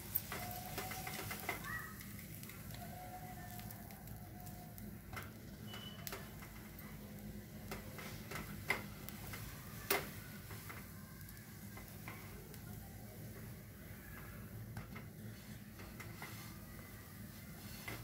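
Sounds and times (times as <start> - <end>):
butter sizzling in a pan: 0.0 - 14.7.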